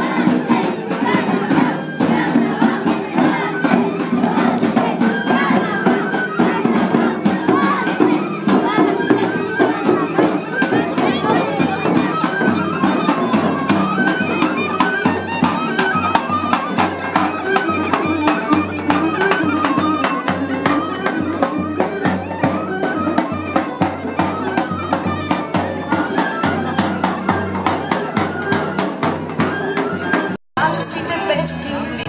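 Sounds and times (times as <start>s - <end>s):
folk street band melody: 0.0s - 32.0s
steady drum beat: 0.0s - 32.0s.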